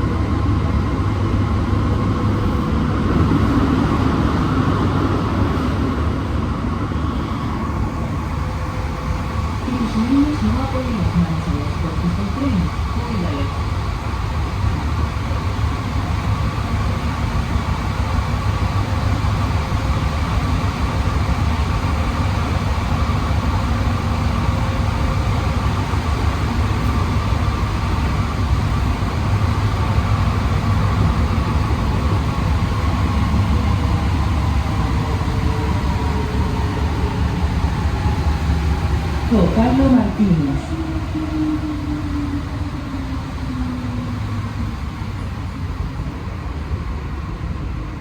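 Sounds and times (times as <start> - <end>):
metro train rumble: 0.0 - 48.0.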